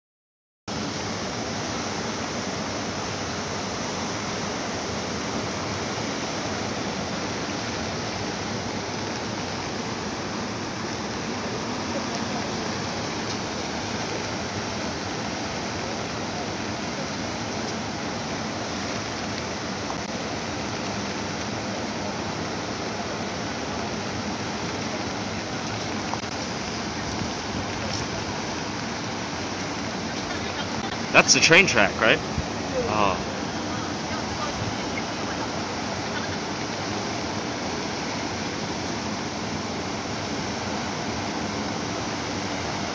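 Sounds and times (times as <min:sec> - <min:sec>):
floodwater rushing: 0:00.7 - 0:42.9.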